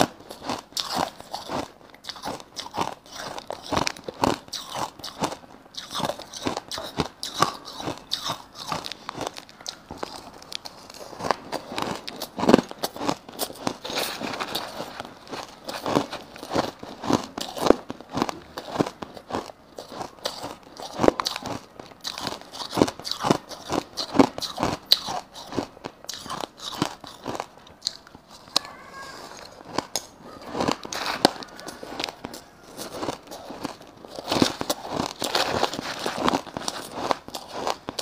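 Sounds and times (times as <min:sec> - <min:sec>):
crunching ice between teeth: 0:00.0 - 0:38.0.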